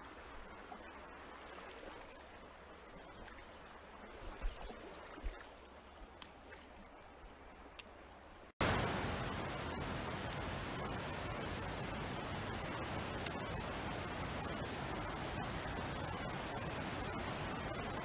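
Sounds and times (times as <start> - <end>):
rushing water: 0.0 - 8.0, 8.6 - 18.0
stream running over stones: 0.0 - 18.0.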